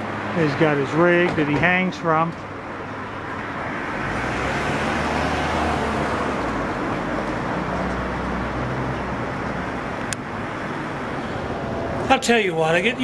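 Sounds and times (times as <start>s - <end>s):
rushing tyre noise: 0.0s - 13.0s
vehicle engine hum: 0.0s - 13.0s.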